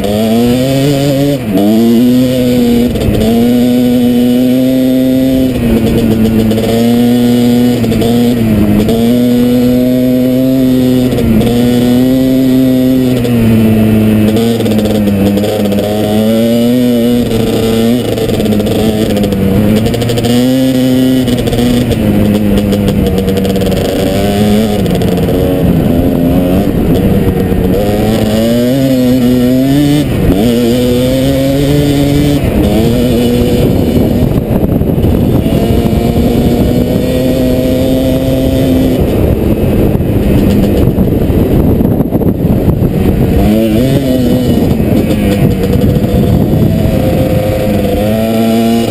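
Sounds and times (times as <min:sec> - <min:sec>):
two-stroke motorcycle engine revving: 0:00.0 - 0:48.9.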